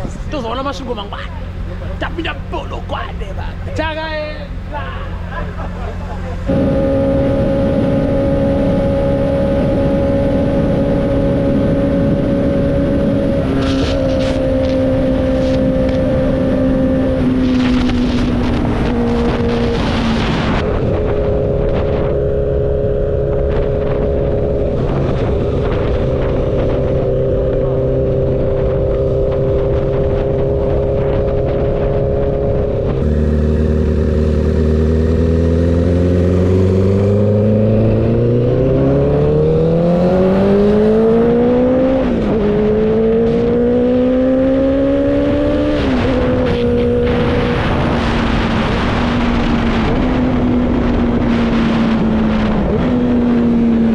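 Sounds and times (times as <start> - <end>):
wind on microphone: 0.0 - 0.8, 5.6 - 53.9
motorcycle engine accelerating: 0.0 - 53.9.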